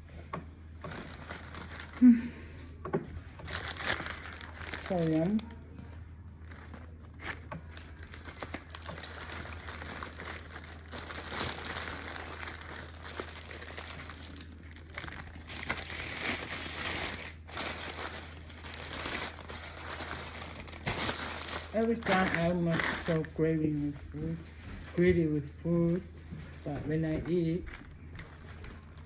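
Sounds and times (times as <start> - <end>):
crinkling and crackling: 0.7 - 2.4, 3.0 - 25.3, 25.9 - 29.0.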